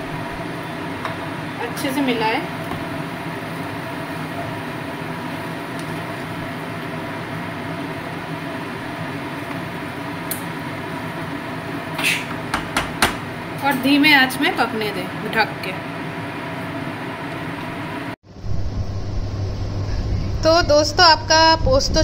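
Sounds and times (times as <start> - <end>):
fan or motor whirring hum: 0.0 - 22.0.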